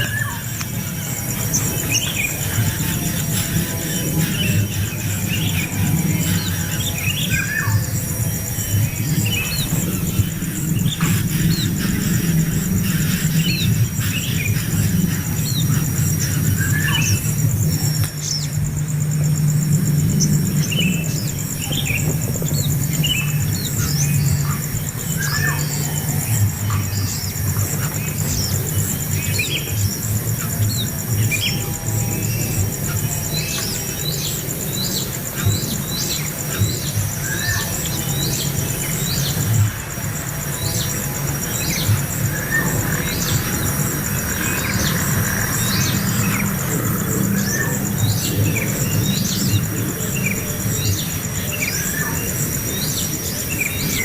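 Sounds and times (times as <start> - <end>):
high pulsing buzz: 0.0 - 54.0
small birds chirping: 0.0 - 54.0
steady low hum: 0.0 - 54.0.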